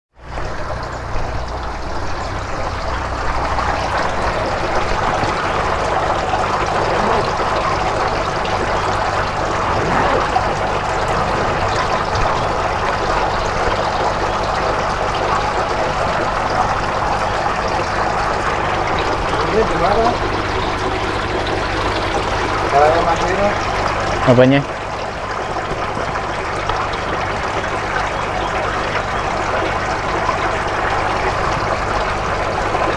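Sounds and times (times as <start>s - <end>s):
water splashing into tank: 0.2s - 32.9s.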